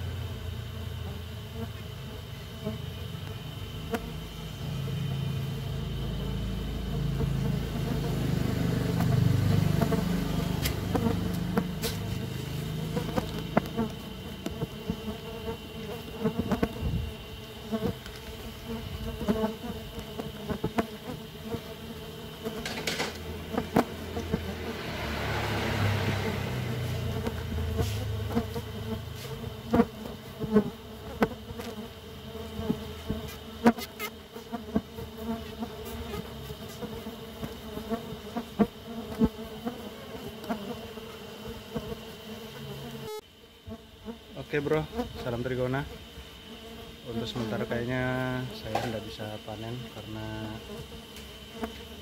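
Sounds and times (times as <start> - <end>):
bees buzzing: 0.0 - 52.0.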